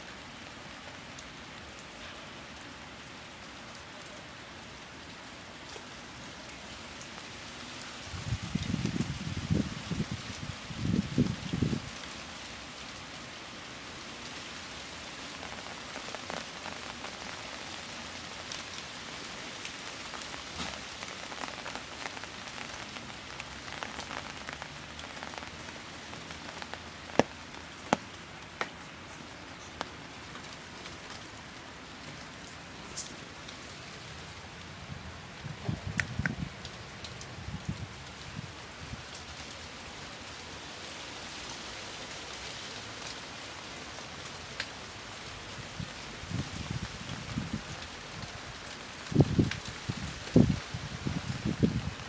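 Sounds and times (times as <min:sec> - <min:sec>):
steady rain on plants: 0:00.0 - 0:52.0.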